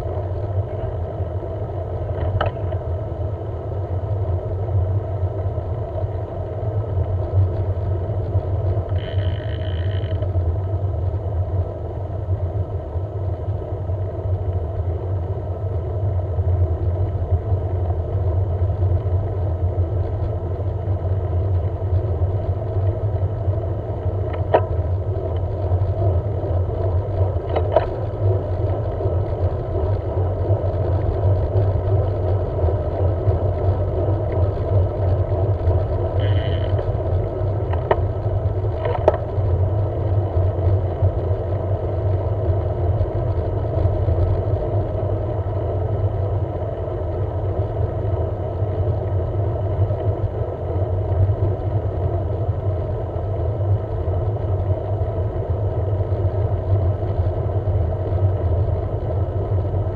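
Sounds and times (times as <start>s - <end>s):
road noise rumble: 0.0s - 59.9s.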